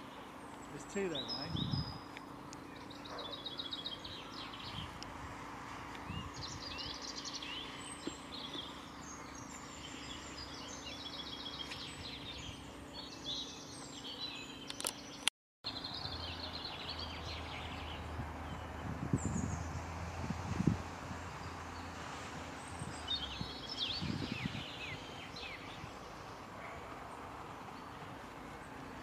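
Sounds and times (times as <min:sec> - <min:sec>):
songbirds singing and chirping: 0:00.0 - 0:29.0.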